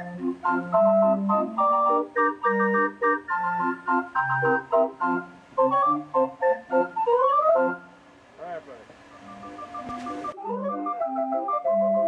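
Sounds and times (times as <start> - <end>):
band organ playing bouncy tune: 0.0 - 12.0.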